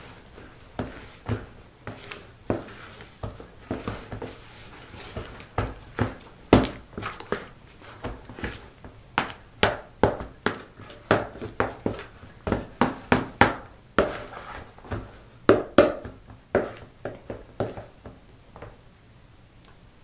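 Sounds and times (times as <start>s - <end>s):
dough kneaded by hand in bowl: 0.0s - 18.9s.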